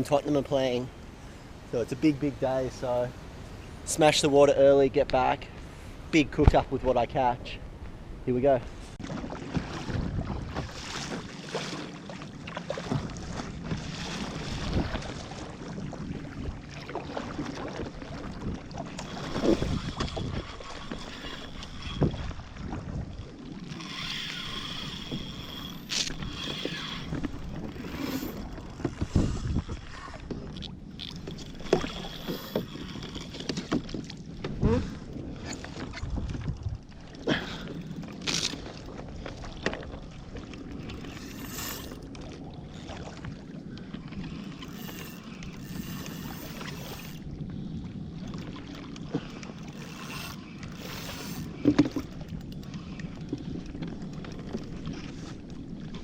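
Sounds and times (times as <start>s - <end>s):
water splashing against hull: 0.0s - 56.0s.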